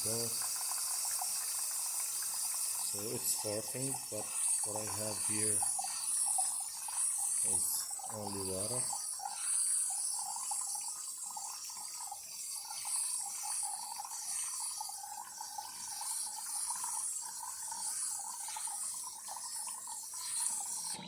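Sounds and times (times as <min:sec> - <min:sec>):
steam hissing: 0:00.0 - 0:21.0
water spluttering from spout: 0:00.0 - 0:21.0.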